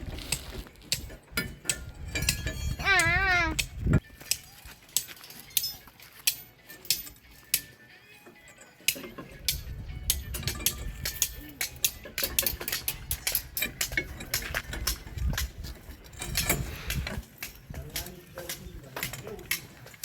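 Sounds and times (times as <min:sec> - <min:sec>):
hand tools clinking on steel bars: 0:00.0 - 0:20.0.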